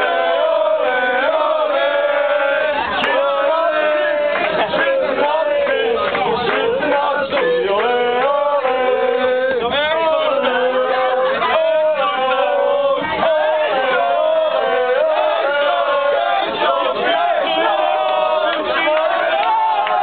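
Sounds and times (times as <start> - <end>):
group singing and chanting: 0.0 - 20.0.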